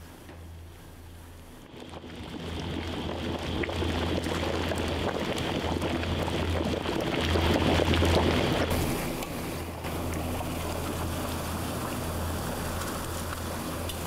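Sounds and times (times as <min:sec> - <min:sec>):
gas burner roar: 0:00.0 - 0:14.0
broth bubbling: 0:01.5 - 0:14.0.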